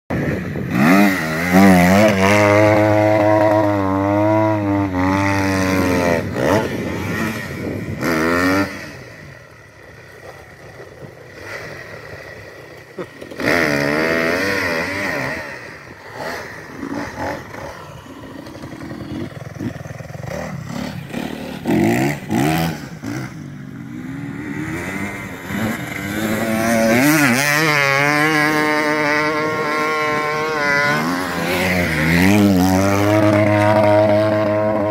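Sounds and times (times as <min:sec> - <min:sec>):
off-road engines revving: 0:00.1 - 0:34.9.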